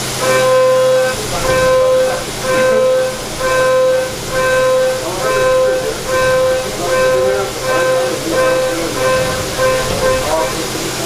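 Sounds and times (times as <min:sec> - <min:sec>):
machine hum: 0:00.0 - 0:11.0
high-pitched metal cutting tone: 0:00.2 - 0:10.8.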